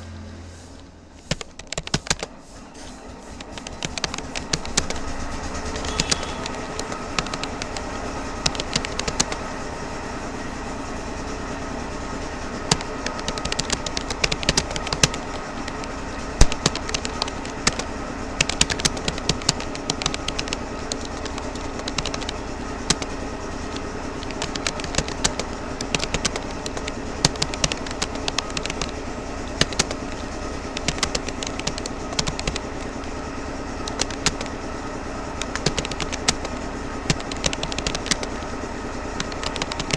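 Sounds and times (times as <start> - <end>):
background hum: 0.0 - 39.9
keyboard keystroke clicks: 1.2 - 9.4, 12.6 - 33.2, 33.8 - 34.6, 35.4 - 39.9.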